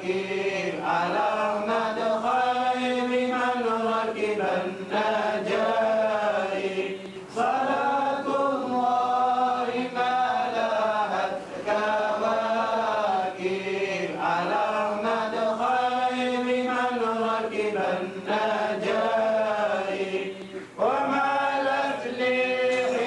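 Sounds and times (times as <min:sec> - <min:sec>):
person chanting melodically: 0:00.0 - 0:23.0.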